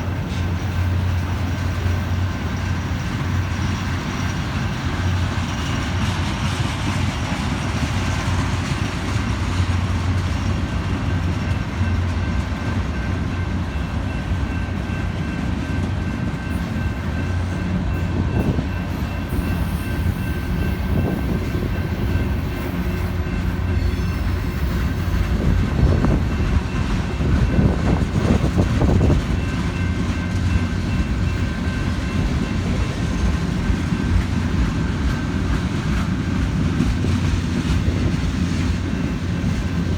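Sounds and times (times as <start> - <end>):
train wheels clunking: 0.0 - 39.9.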